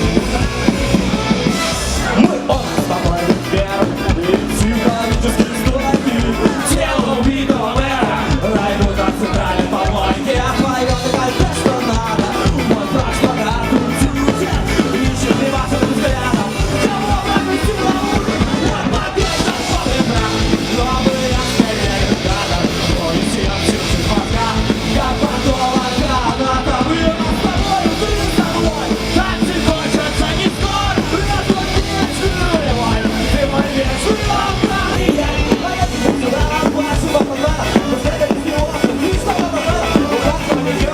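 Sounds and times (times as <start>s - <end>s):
live punk rock band: 0.0s - 40.9s
person singing: 0.0s - 40.9s.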